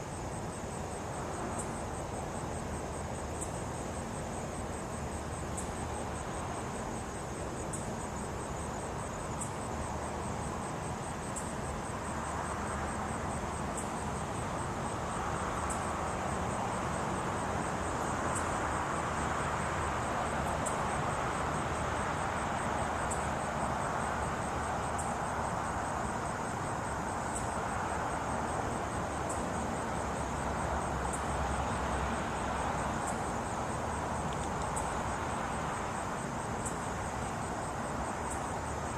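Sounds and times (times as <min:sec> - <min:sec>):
louder insect chirp: 0:00.0 - 0:38.9
night insects trilling: 0:00.0 - 0:38.9
steady hiss: 0:00.0 - 0:38.9.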